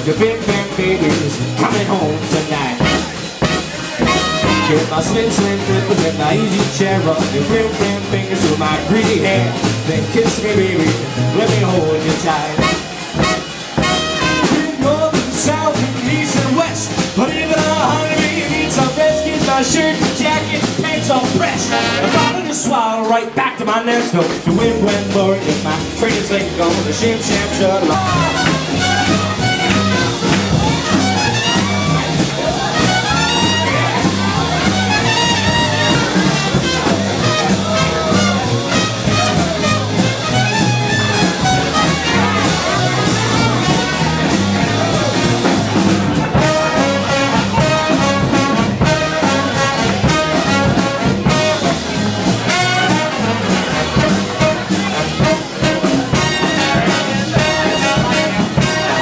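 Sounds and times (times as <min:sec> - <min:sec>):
swing band brass playing: 0:00.0 - 0:59.0.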